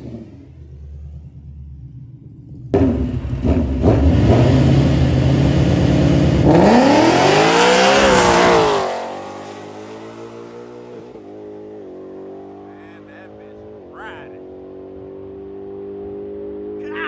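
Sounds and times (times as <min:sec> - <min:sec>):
drag car accelerating at full throttle: 0:00.0 - 0:16.9.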